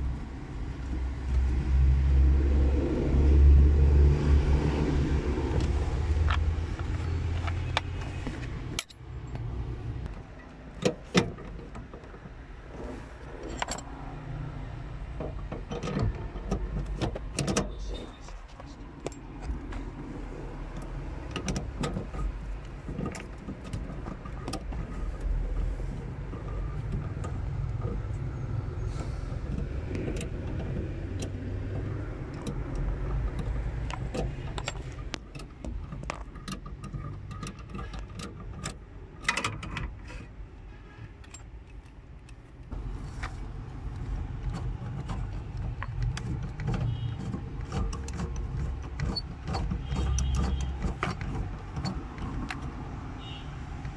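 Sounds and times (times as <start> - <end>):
tools clicking and rattling: 5.5 - 12.6, 13.2 - 14.2, 15.1 - 40.3, 41.1 - 42.7, 43.9 - 53.0.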